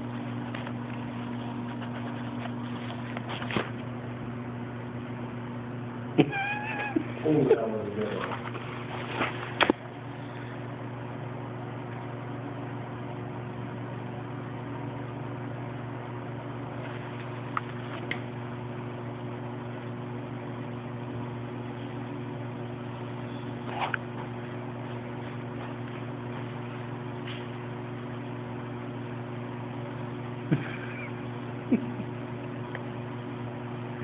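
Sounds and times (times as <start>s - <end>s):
machinery hum: 0.0s - 34.0s.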